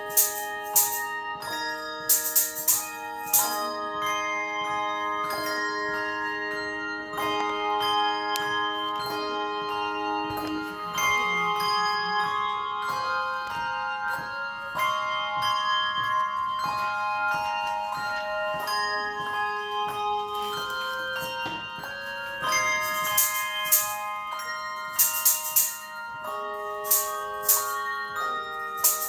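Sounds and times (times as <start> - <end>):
handbell choir ringing: 0.0 - 29.0.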